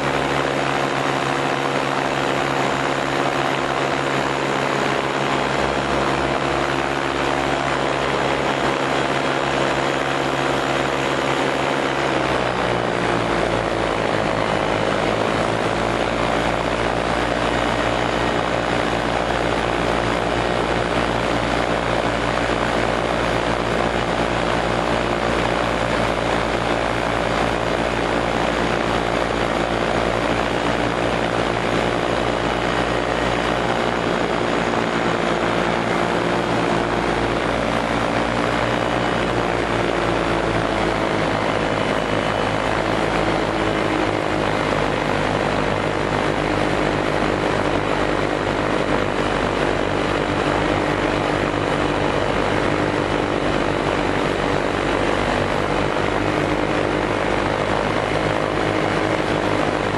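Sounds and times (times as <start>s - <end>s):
aircraft propeller engine running: 0.0s - 59.9s.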